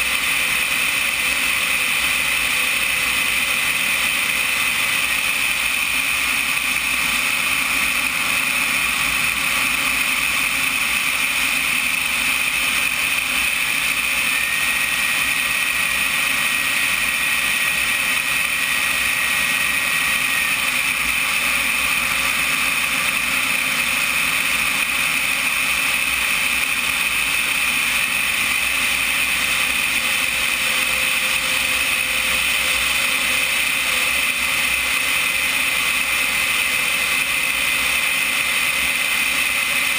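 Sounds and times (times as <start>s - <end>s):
faint high whine: 0.0s - 39.9s
jet turbine engine running: 0.0s - 39.9s.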